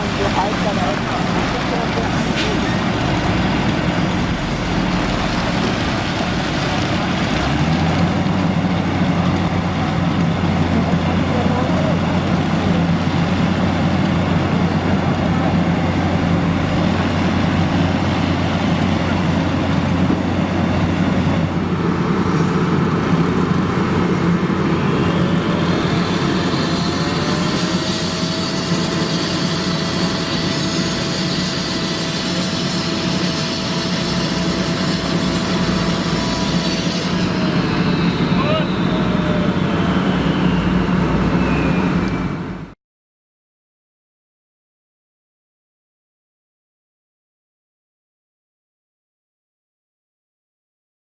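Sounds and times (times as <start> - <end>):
road-building machinery engines droning: 0.0 - 42.8
steady whine: 0.0 - 42.8.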